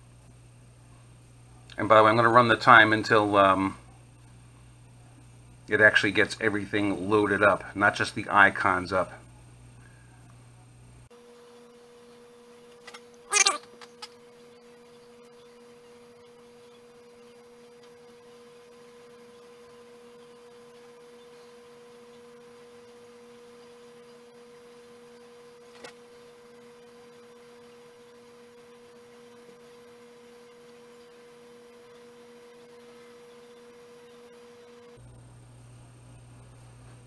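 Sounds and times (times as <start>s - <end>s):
computer whine and hum: 0.0s - 37.0s.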